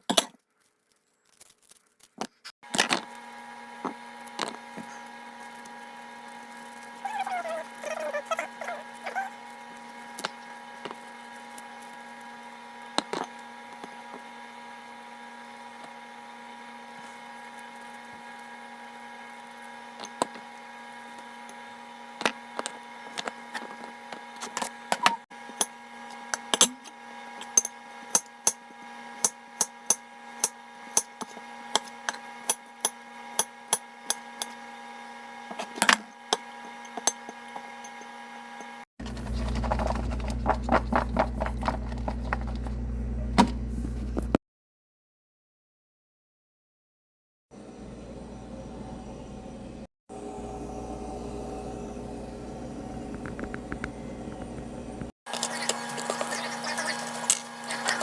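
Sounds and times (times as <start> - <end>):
electrical hum: 2.6 - 44.4, 47.6 - 58.0.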